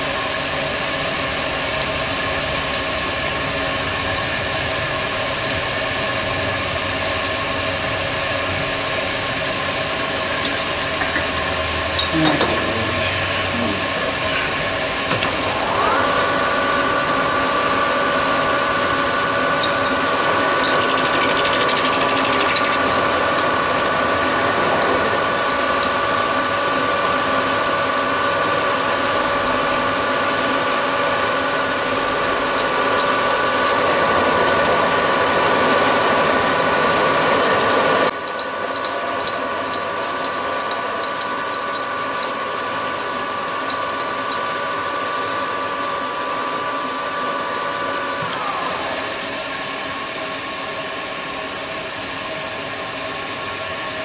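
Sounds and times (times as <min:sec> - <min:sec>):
milling machine whining: 0:00.0 - 0:54.0.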